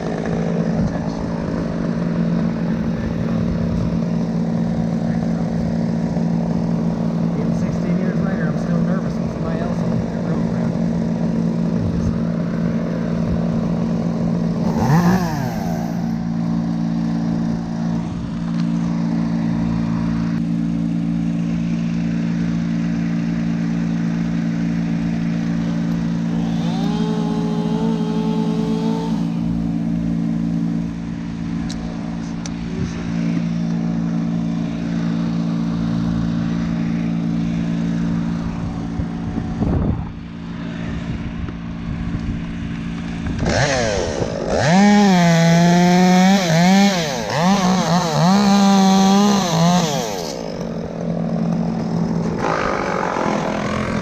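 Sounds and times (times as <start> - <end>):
machine engine running: 0.0 - 54.0.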